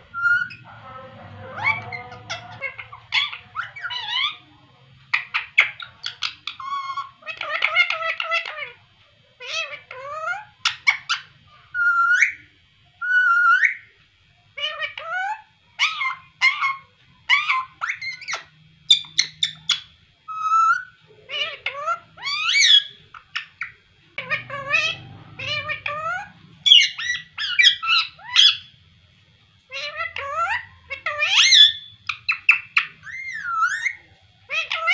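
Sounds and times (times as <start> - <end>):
parakeet squawking and chirping: 0.0 - 4.5, 5.1 - 8.8, 9.4 - 12.4, 13.0 - 13.9, 14.6 - 28.9, 29.7 - 34.9.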